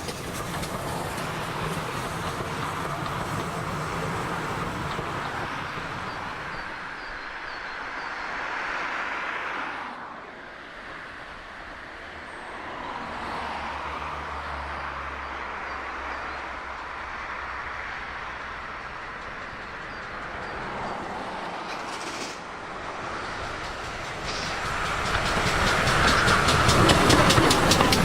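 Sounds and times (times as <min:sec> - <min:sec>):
train rolling past: 0:00.0 - 0:09.2, 0:10.4 - 0:28.0.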